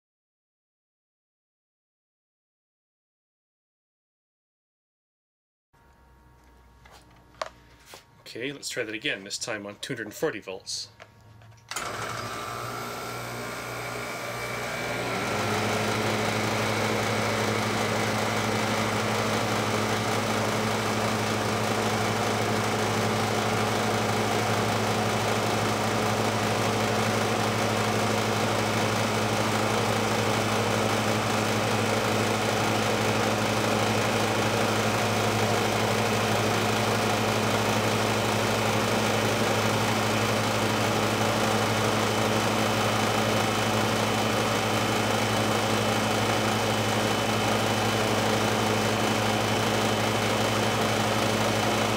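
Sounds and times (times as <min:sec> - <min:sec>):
compressor humming: 0:05.8 - 0:51.9.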